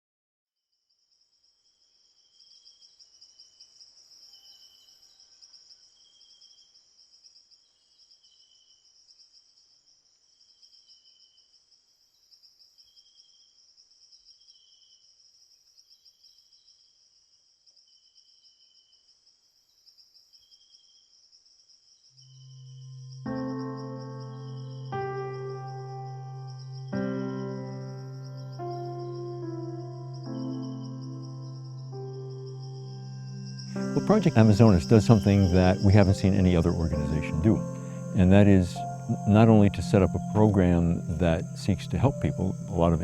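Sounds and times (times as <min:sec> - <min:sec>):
insect chirps: 0:00.6 - 0:43.0
insects pulsing trill: 0:00.9 - 0:43.0.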